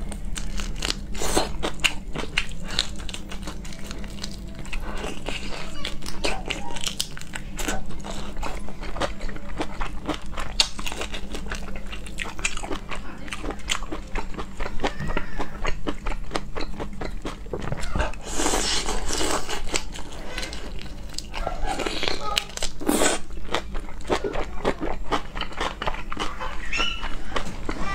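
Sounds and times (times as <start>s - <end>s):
chewing crunchy shrimp: 0.0s - 27.9s.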